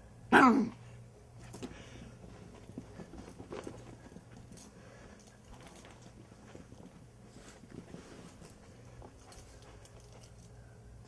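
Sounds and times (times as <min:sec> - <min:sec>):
paws clicking on wooden floor: 0:01.5 - 0:10.5.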